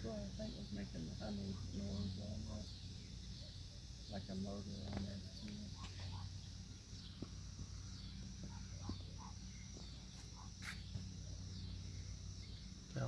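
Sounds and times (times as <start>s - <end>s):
hummingbird wings humming: 0.0s - 13.0s.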